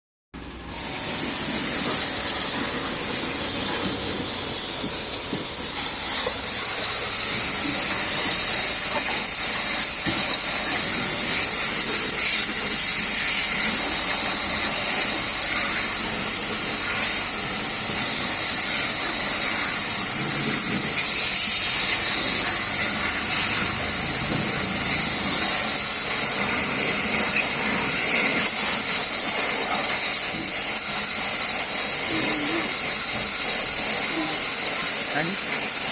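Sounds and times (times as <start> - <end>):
pressurised jet hissing: 0.6 - 35.9.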